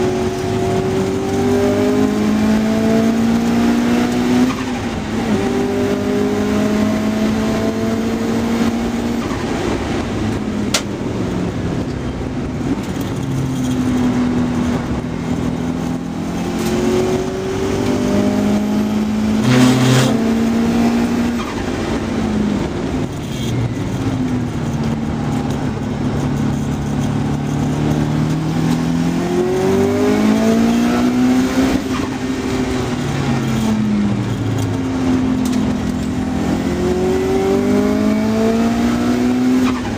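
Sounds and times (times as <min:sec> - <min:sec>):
racing car engine revving: 0:00.0 - 0:10.0, 0:14.7 - 0:23.6, 0:25.6 - 0:39.9
wind and road noise: 0:00.0 - 0:39.9.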